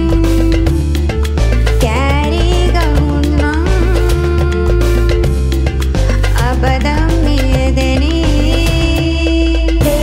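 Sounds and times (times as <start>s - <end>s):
song with beat and bass: 0.0s - 10.0s.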